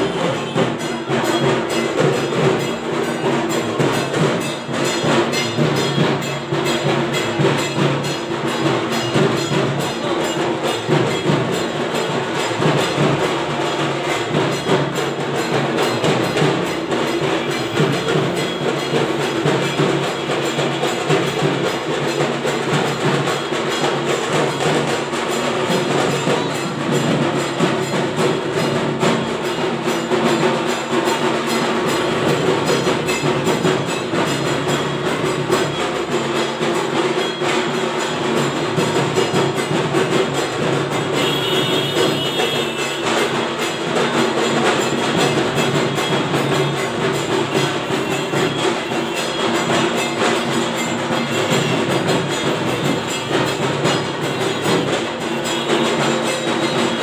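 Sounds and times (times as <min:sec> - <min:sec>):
loud music with fast percussion: 0:00.0 - 0:57.0.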